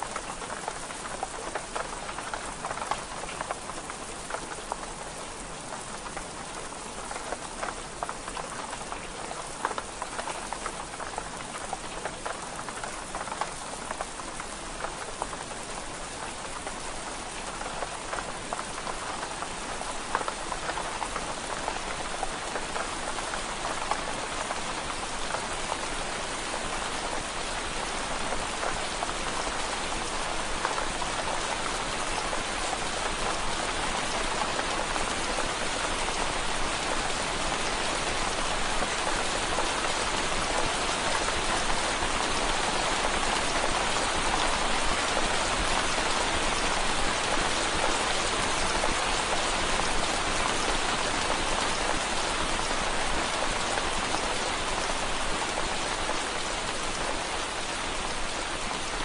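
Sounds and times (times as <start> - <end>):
rain pattering on window glass: 0.0 - 59.0.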